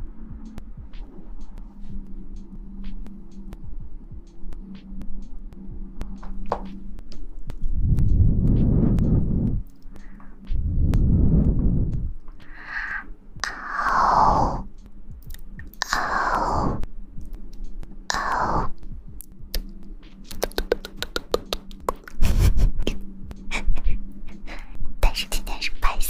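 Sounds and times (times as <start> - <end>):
crackles and clicks: 0.1 - 22.2.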